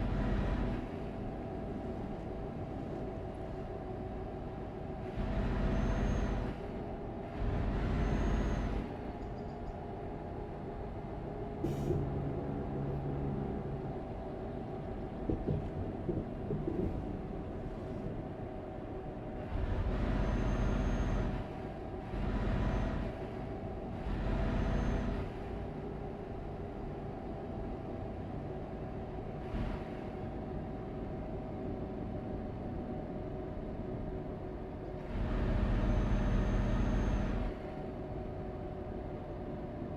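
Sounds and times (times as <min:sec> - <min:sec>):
road vehicle humming: 0:00.0 - 0:39.9.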